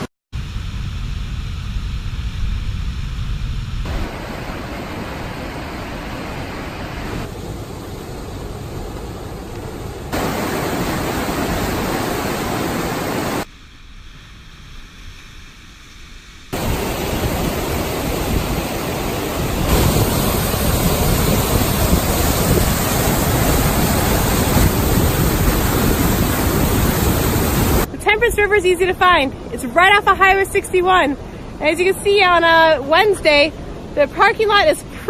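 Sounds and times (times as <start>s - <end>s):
whitewater rushing through canyon: 3.9s - 13.5s, 16.5s - 35.0s.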